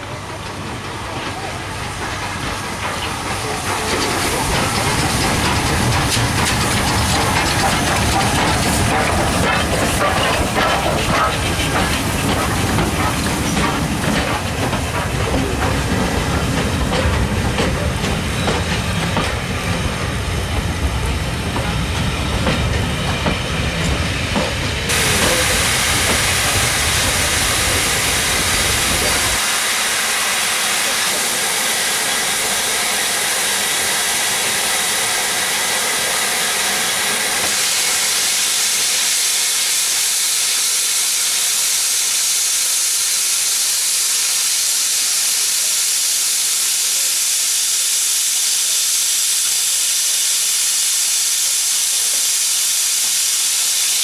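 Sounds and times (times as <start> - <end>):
steam train rumbling and clanking: 0.0 - 54.0
loud hiss of escaping steam: 2.5 - 54.0.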